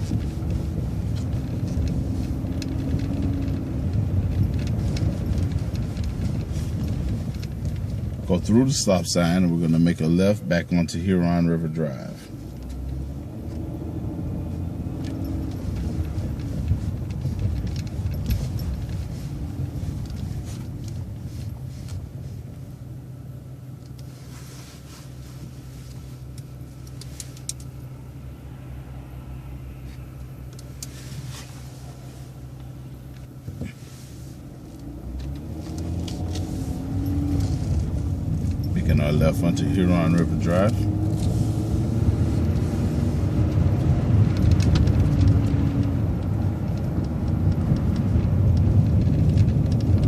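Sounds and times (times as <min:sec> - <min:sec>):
faint clicks and rattles: 0:00.0 - 0:09.4, 0:11.9 - 0:28.0, 0:29.8 - 0:50.0
bus engine running: 0:00.0 - 0:50.0.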